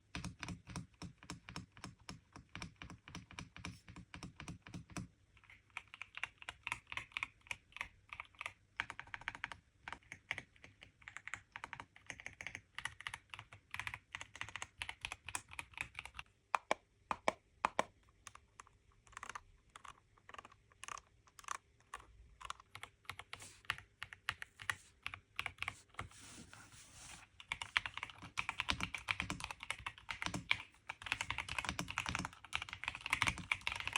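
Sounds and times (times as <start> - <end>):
mechanical keyboard typing: 0.1 - 16.2, 19.0 - 26.0, 27.4 - 33.9.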